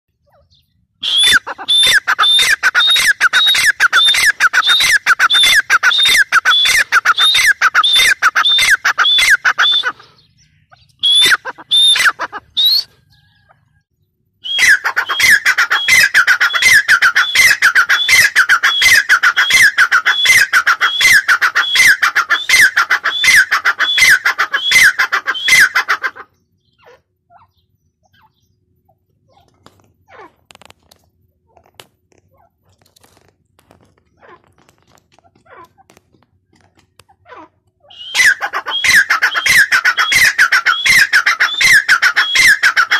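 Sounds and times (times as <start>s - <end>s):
bird calling sharp repeated notes: 0.2s - 13.7s, 14.4s - 28.6s, 34.0s - 42.9s.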